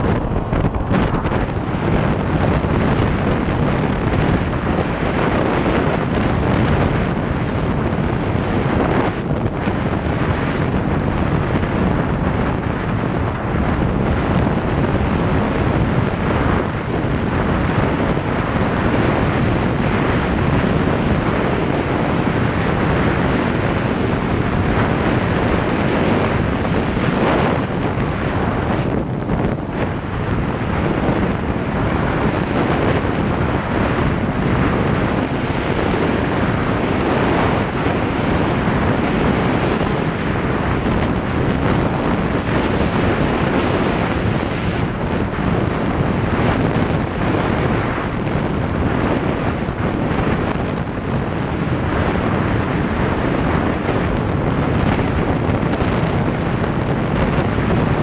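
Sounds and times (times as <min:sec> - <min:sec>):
snowmobile running: 0:00.0 - 0:58.0
wind buffeting microphone: 0:00.0 - 0:58.0.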